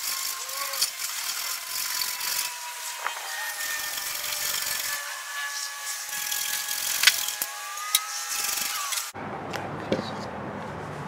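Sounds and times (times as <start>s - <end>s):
hand tool scraping wood: 0.0s - 9.1s.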